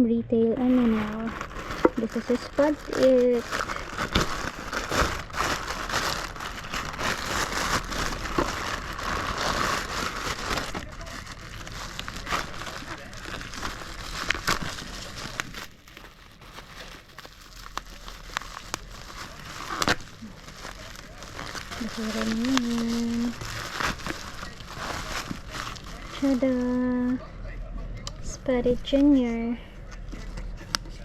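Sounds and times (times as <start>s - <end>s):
packaging crinkling: 0.6s - 27.2s.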